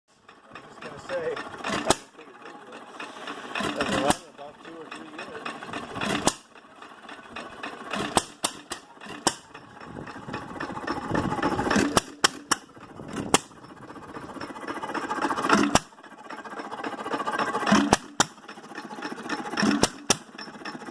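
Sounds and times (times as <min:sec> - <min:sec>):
stationary engine banging: 0:00.1 - 0:20.9.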